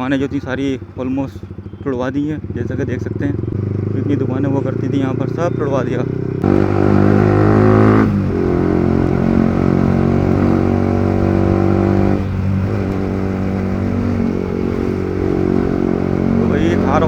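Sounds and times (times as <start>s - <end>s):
motorcycle engine riding: 0.0s - 17.0s.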